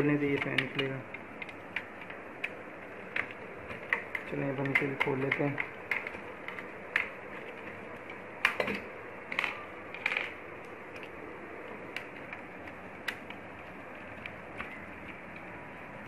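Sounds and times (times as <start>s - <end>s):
small parts clicking and knocking: 0.0s - 16.0s.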